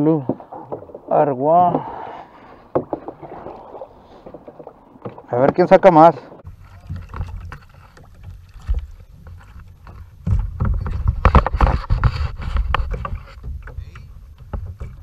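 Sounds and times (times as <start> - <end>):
paddle knocking against hull: 0.0 - 15.0
water sloshing and splashing: 0.0 - 15.0.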